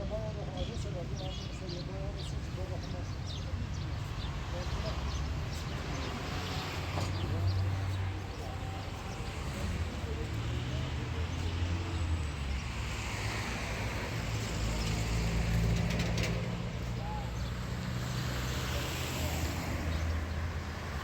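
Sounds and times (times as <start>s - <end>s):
road noise: 0.0s - 21.0s.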